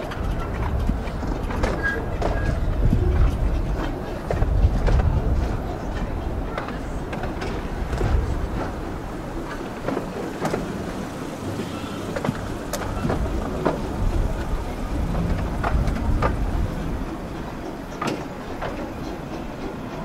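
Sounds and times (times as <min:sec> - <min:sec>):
miniature train rumble: 0:00.0 - 0:20.0
wheels clicking and knocking: 0:00.0 - 0:20.0.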